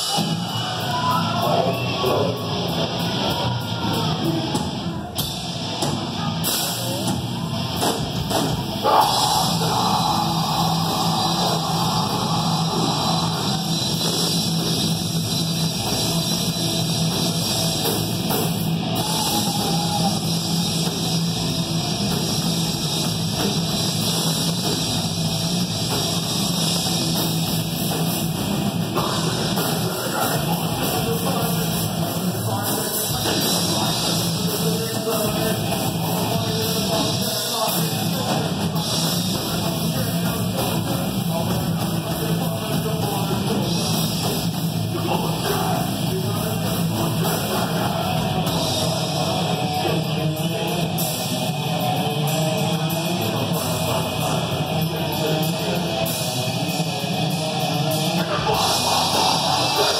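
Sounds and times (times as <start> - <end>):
live heavy metal band: 0.0 - 59.9.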